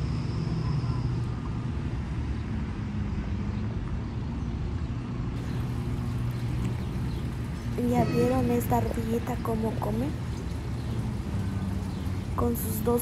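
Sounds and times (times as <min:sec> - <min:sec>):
traffic engine hum: 0:00.0 - 0:13.0.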